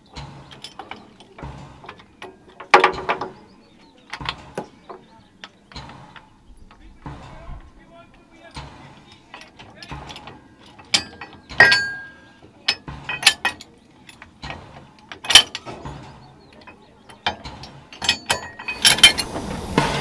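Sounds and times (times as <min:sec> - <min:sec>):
metal railway coupling clanks: 0:00.0 - 0:20.0
train running noise: 0:00.0 - 0:20.0.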